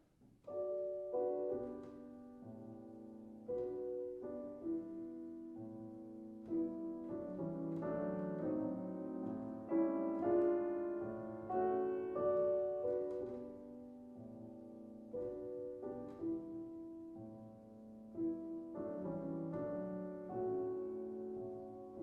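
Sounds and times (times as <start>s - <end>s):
solo piano classical piece: 0.0s - 22.0s.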